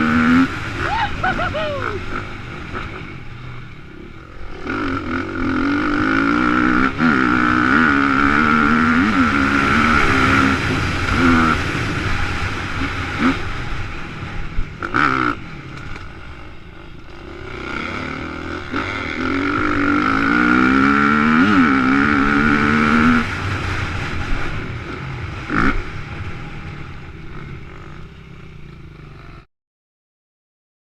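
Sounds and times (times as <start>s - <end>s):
motocross bike engine revving: 0.0s - 29.4s.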